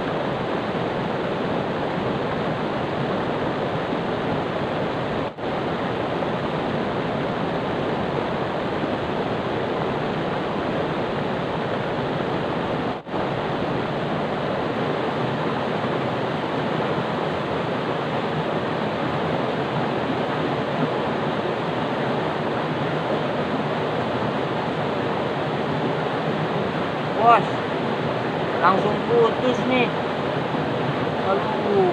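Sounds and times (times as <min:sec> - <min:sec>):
flowing river water: 0:00.0 - 0:31.9.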